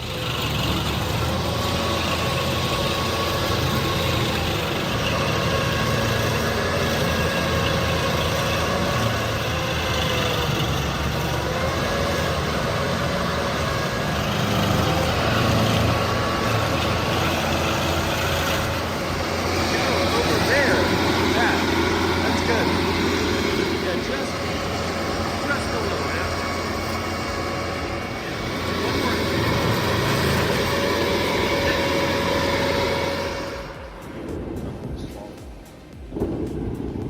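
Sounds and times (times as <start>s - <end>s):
stump grinder engine running: 0.0s - 34.8s
high whine: 0.0s - 37.0s.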